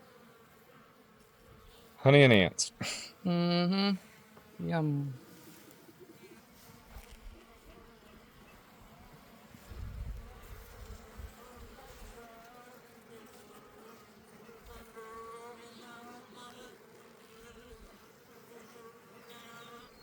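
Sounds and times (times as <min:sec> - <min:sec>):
bee droning close by: 0:00.0 - 0:20.0
honeybees buzzing: 0:00.0 - 0:20.0.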